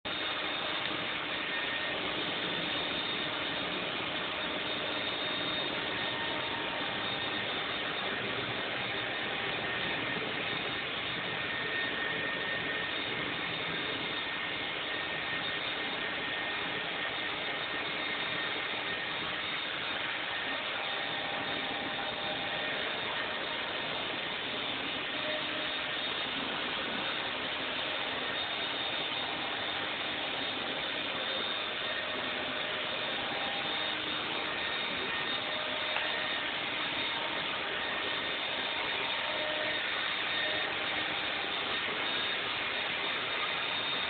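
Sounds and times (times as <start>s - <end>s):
blow dryer hissing: 0.1s - 44.0s.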